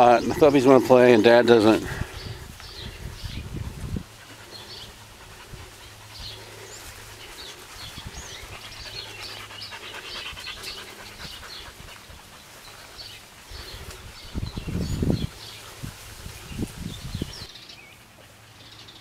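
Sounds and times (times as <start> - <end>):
dog panting: 0.0 - 16.5
birds chirping: 0.0 - 19.0.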